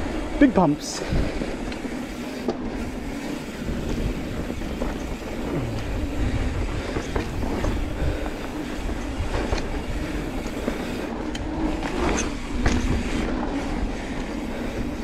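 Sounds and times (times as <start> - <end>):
bike frame rattling: 1.8 - 15.0.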